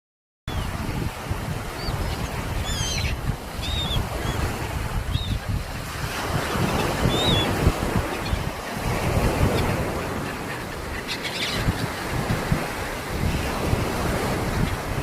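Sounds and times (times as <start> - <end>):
sea surf washing ashore: 0.5 - 15.0
wind on microphone: 0.5 - 15.0.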